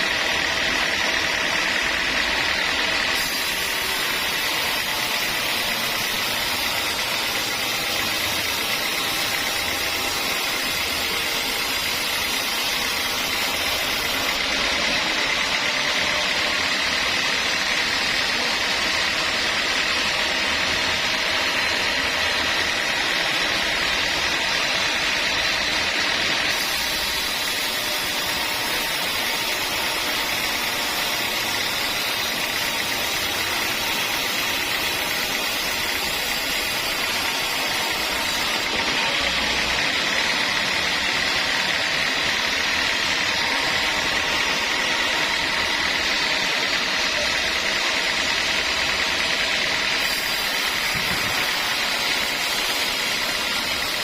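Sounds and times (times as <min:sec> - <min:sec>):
sawmill saw whining: 0:00.0 - 0:54.0.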